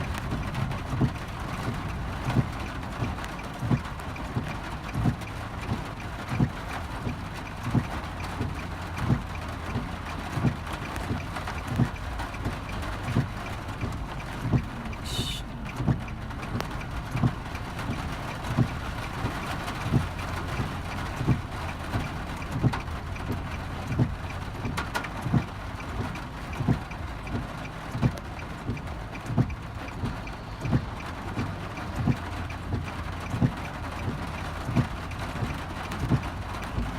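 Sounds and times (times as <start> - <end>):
car hum: 0.0 - 36.9
heavy rain hiss: 0.0 - 36.9
windscreen wipers thumping: 0.0 - 36.9.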